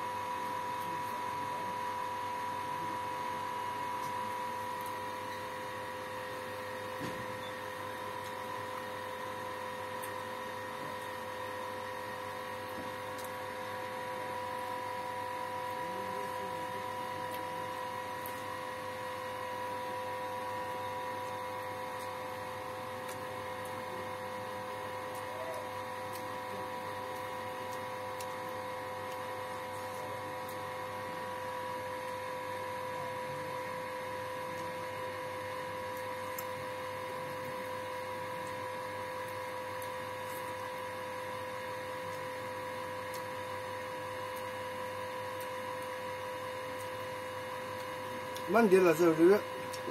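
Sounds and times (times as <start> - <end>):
electrical hum: 0.0 - 49.9.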